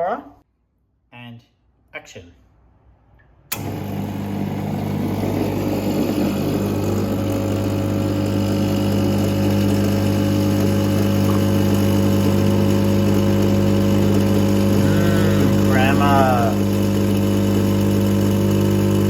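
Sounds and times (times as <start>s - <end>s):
espresso machine pump buzzing: 3.5s - 19.0s.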